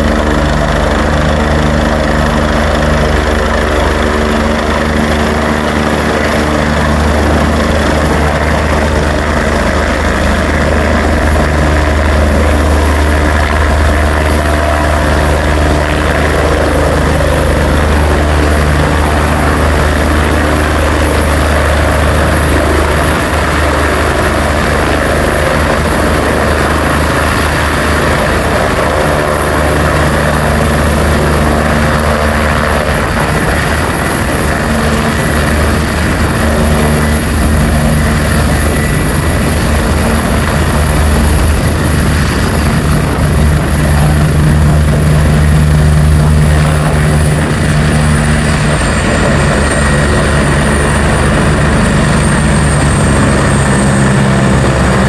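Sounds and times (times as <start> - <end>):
helicopter rotor beat: 0.0 - 55.0
high turbine whine: 0.0 - 55.0.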